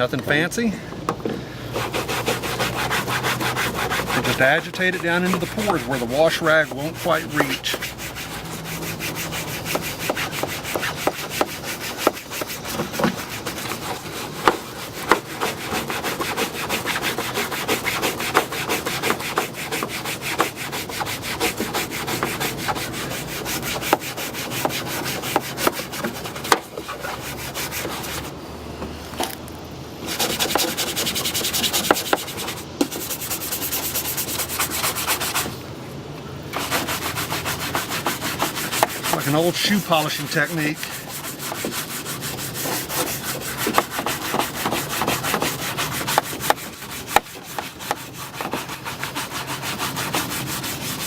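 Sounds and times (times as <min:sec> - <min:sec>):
brush scrubbing plastic bumper: 0:01.7 - 0:28.4, 0:30.0 - 0:35.6, 0:36.5 - 0:51.0.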